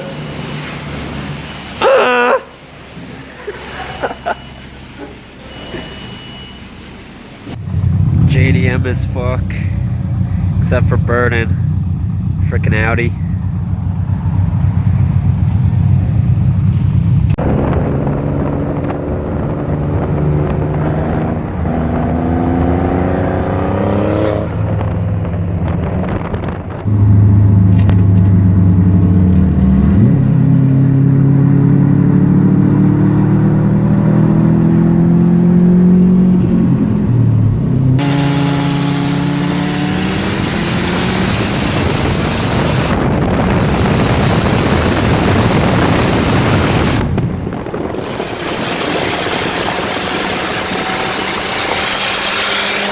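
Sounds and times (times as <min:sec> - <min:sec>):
car engine accelerating: 0:02.6 - 0:52.9.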